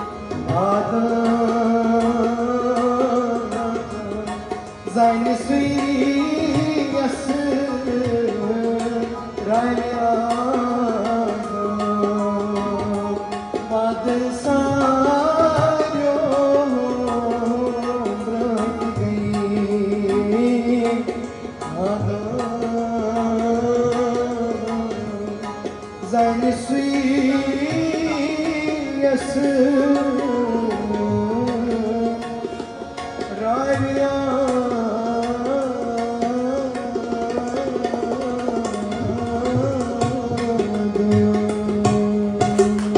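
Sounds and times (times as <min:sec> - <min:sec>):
man singing into a microphone: 0:00.0 - 0:42.9
tabla strokes: 0:00.0 - 0:42.9.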